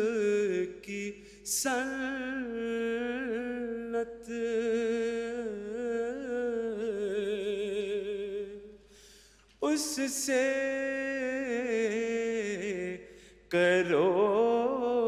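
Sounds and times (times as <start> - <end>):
man singing slow chant: 0.0 - 8.8, 9.6 - 15.0.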